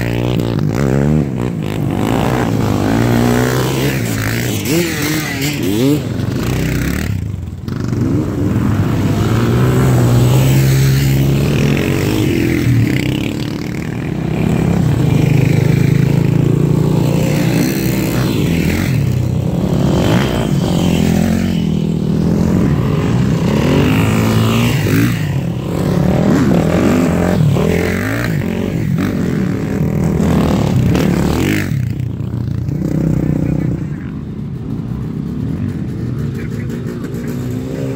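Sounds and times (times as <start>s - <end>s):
dirt bike engines revving: 0.0s - 37.9s.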